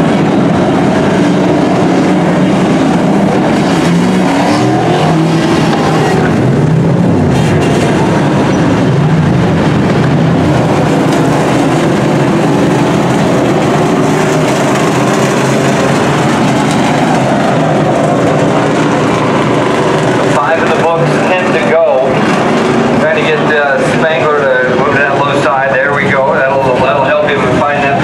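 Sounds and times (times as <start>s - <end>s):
racing truck engines droning: 0.0s - 28.0s.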